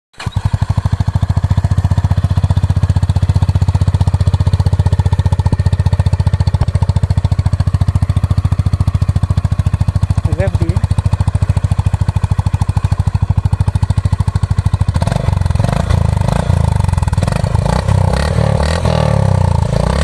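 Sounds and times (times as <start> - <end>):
motorcycle engine idling: 0.2 - 20.0.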